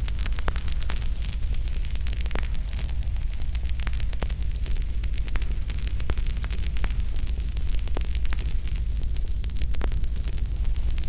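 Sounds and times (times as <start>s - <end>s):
fire flames rumbling: 0.0s - 11.0s
logs crackling and popping: 0.0s - 11.0s.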